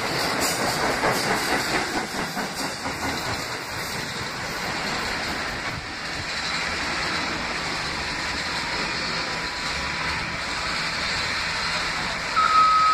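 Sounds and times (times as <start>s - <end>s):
train wheels rolling on rail: 0.0s - 12.9s.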